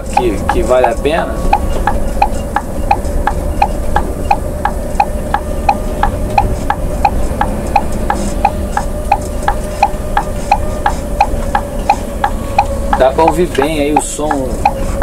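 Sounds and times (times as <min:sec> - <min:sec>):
diesel engine low rumble: 0:00.0 - 0:15.0
sharp pitched ticking: 0:00.0 - 0:15.0.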